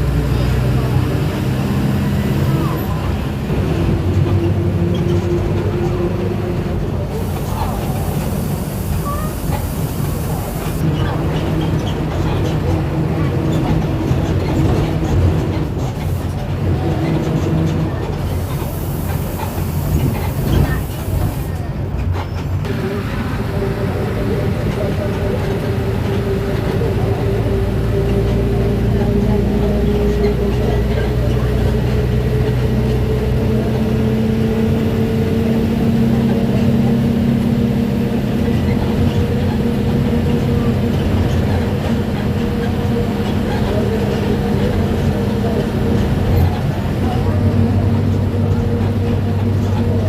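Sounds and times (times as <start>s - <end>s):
bus engine drone: 0.0s - 50.0s.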